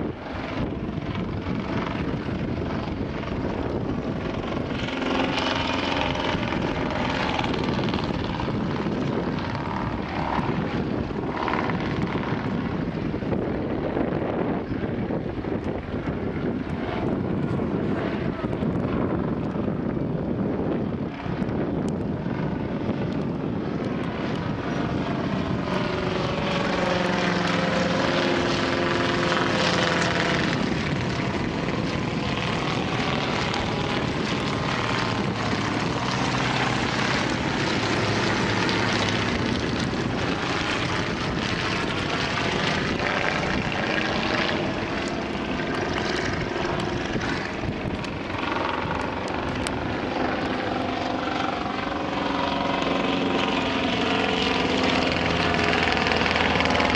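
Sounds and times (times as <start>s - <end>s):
propeller aircraft droning overhead: 0.0s - 56.9s.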